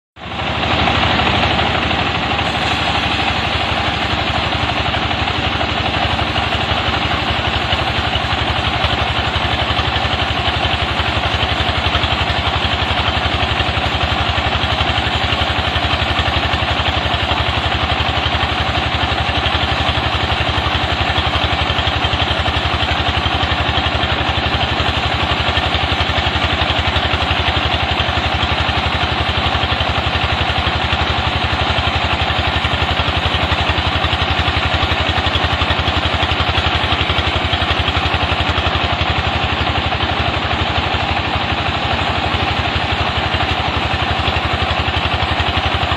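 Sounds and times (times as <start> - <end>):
sawmill saw running: 0.2 - 45.9.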